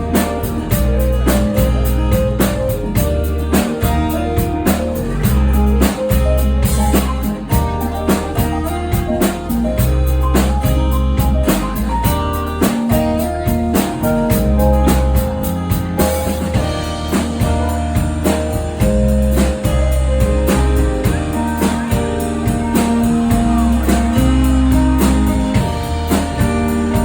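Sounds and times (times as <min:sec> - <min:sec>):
band playing instrumental: 0:00.0 - 0:27.0.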